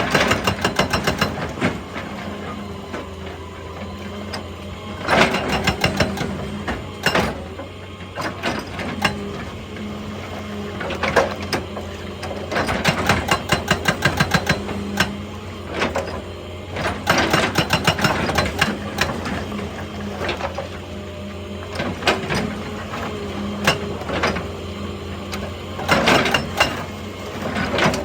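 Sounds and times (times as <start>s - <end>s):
hydraulic breaker hammering rock: 0.0s - 3.2s, 4.2s - 7.6s, 10.8s - 20.8s, 21.7s - 28.0s
excavator engine running: 0.0s - 28.0s.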